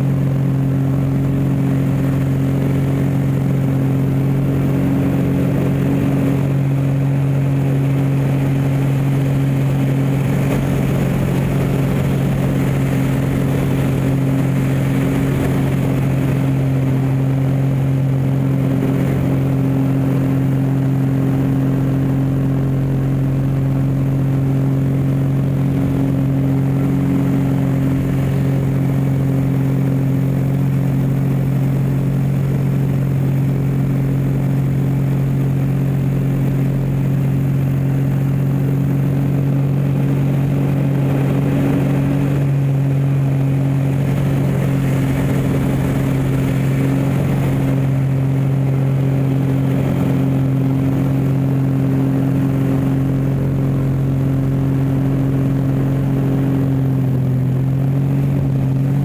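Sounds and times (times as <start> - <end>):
plane engine and propeller drone: 0.0 - 59.0.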